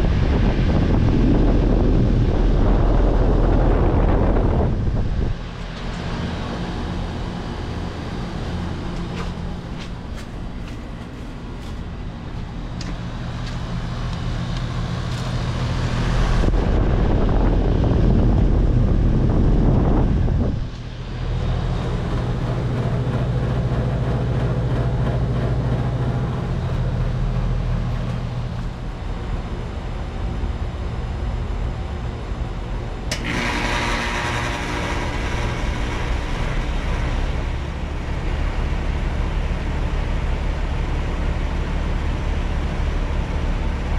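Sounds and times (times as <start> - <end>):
heat pump compressor and fan hum: 0.0 - 43.9.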